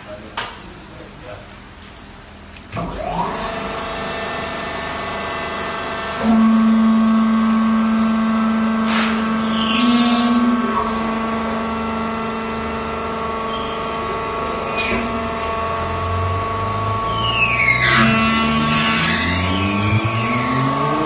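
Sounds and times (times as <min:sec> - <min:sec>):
hydraulic pump whine and hum: 0:00.4 - 0:21.0.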